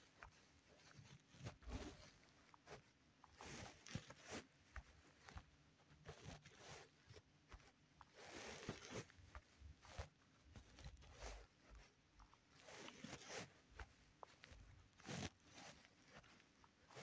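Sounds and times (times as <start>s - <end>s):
faint rustles: 0.0s - 17.0s.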